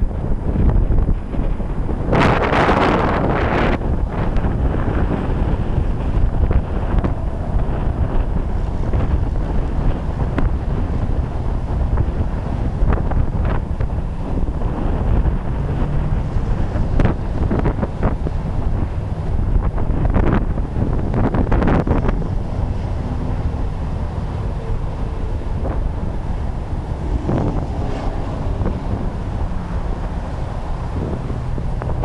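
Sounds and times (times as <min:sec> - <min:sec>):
gusty wind buffeting microphone: 0:00.0 - 0:32.0.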